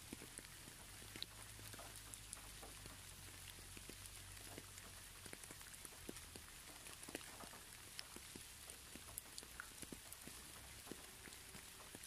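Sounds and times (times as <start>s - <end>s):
faint rain hiss: 0.0s - 12.0s
raindrop ticks: 0.0s - 12.0s.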